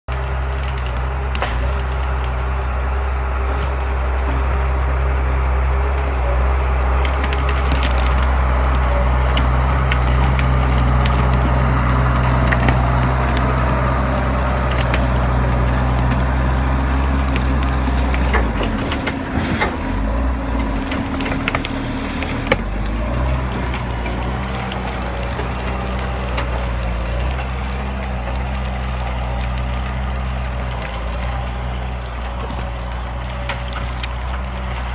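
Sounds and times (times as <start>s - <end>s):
tractor engine running: 0.0s - 34.9s
cracking and crunching: 0.1s - 34.9s.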